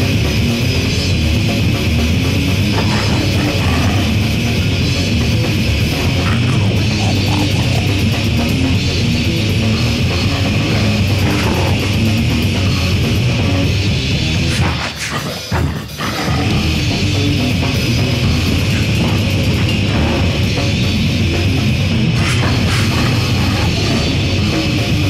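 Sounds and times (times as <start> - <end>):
distorted guitar grind music: 0.0 - 25.0.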